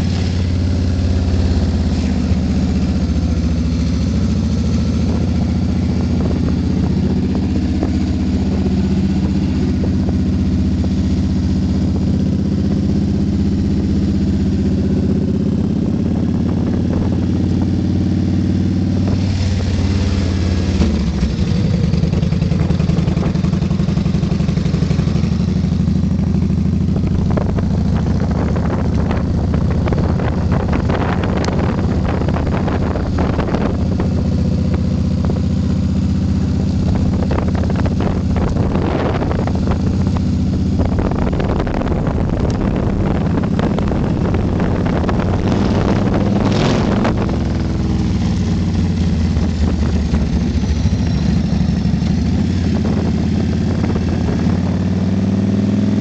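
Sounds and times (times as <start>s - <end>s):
motorcycle engine running: 0.0s - 56.0s
wind rush over microphone: 0.0s - 56.0s.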